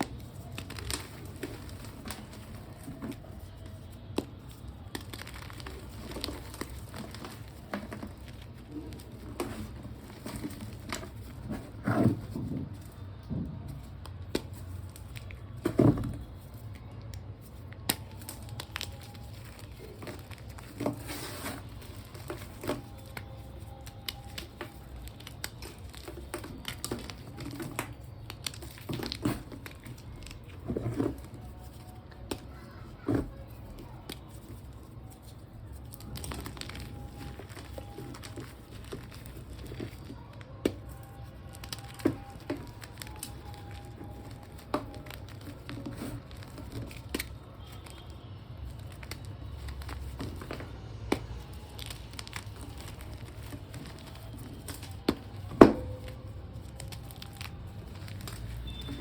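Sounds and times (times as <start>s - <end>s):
chalk blocks crunching: 0.0s - 13.0s, 13.7s - 59.0s.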